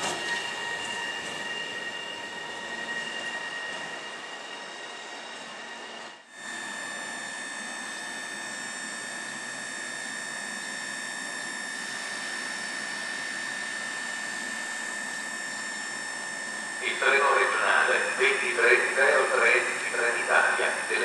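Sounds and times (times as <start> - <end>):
electric locomotive whine: 0.0 - 21.0.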